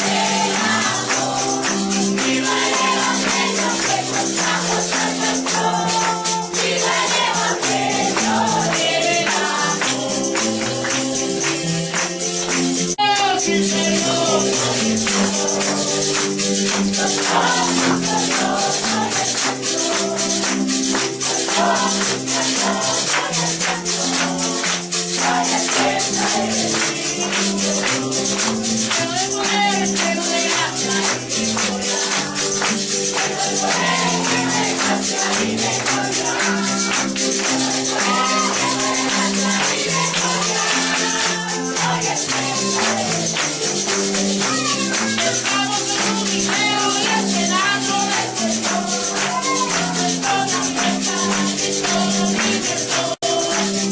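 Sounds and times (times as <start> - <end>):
church worship music: 0.0 - 53.9
tambourine shaking: 0.0 - 53.9.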